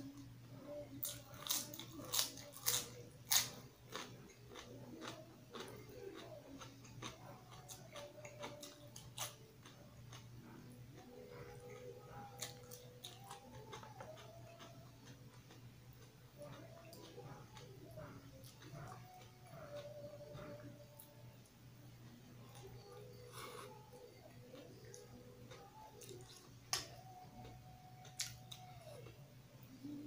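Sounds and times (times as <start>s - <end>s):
crunching and chewing leafy greens: 0.2s - 30.0s.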